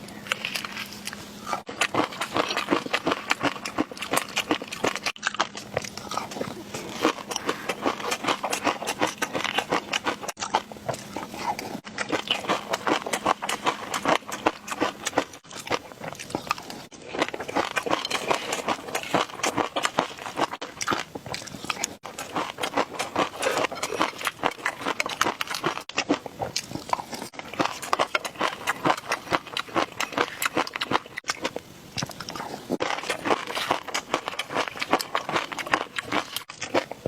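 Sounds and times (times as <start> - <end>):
crackly biting and chewing: 0.0 - 37.0.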